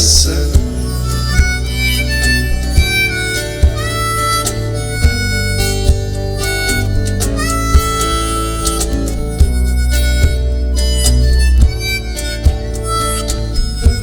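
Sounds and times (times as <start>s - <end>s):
bass and guitar: 0.0s - 14.0s
lead melody with sliding notes: 0.0s - 14.0s.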